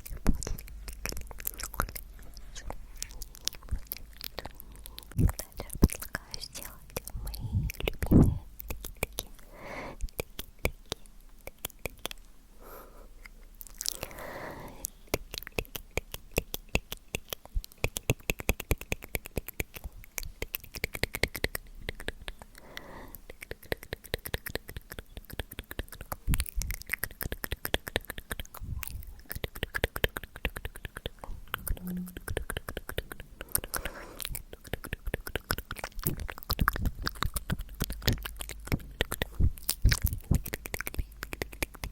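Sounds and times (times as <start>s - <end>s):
soft breathy sounds: 0.0s - 11.2s, 12.0s - 15.3s, 19.7s - 27.1s, 28.0s - 41.9s
wet tongue clicks and lip smacks: 0.0s - 12.3s, 13.2s - 14.2s, 14.8s - 41.9s.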